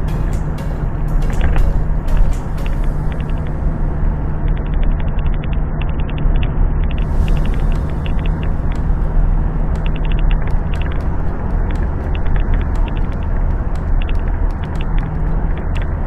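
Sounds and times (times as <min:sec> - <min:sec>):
rapid high-pitched ticking: 0:00.0 - 0:06.3, 0:06.9 - 0:16.0
road rumble: 0:00.0 - 0:16.0
vehicle engine hum: 0:00.0 - 0:16.0.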